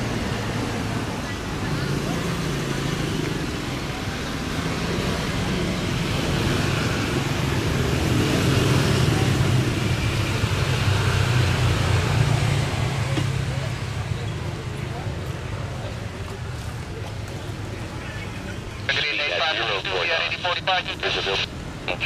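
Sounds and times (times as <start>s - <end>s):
engine rumble: 0.0s - 22.0s.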